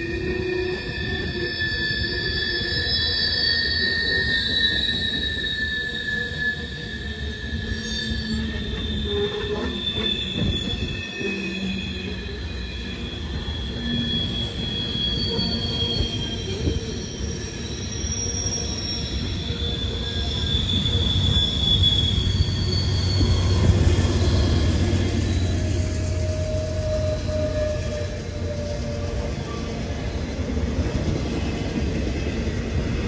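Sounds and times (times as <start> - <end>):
train rumble: 0.0 - 33.0
train wheels squealing: 0.0 - 33.0.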